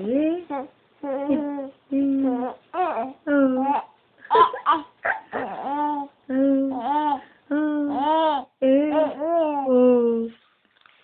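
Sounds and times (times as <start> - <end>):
baby cooing and babbling: 0.5 - 9.8.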